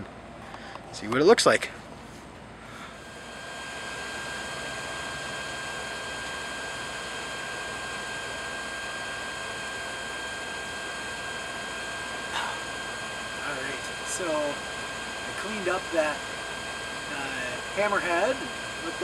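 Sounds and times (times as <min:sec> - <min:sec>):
forge air blower hissing: 0:02.5 - 0:19.0.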